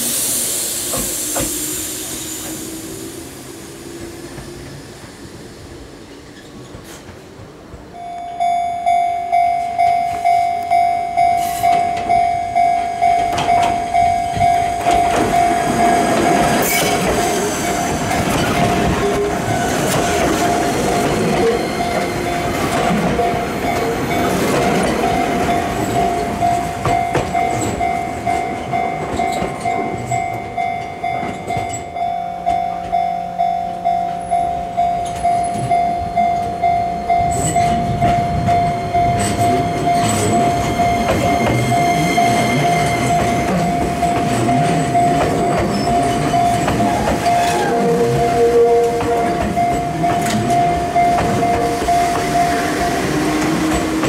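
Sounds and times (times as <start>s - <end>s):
rails screeching: 0.0s - 7.1s, 13.1s - 32.0s, 36.6s - 54.0s
low hum of approaching train: 0.0s - 54.0s
level-crossing alarm clanging: 7.9s - 54.0s
train wheel rumble: 9.6s - 54.0s.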